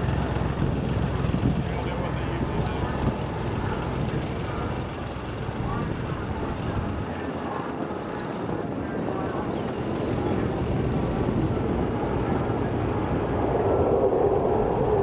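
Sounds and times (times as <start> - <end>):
distant jet roar: 0.0 - 15.0.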